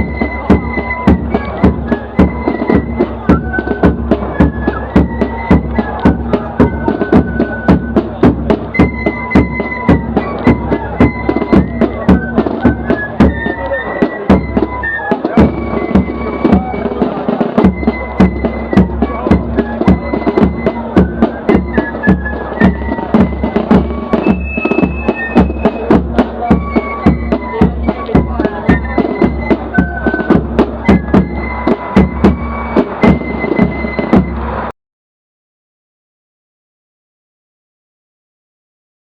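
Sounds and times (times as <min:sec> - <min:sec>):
marching drum beat: 0:00.0 - 0:34.7
shrill fife melody: 0:00.0 - 0:34.7.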